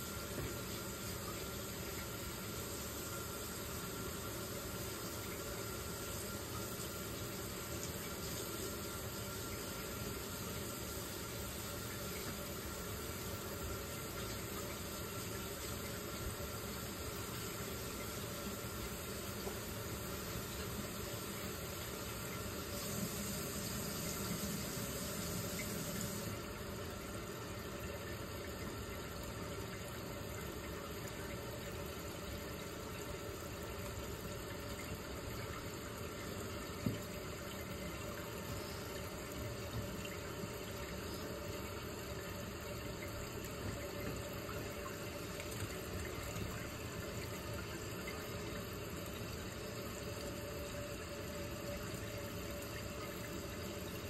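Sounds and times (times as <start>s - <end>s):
water hissing into toilet tank: 0.0s - 54.0s.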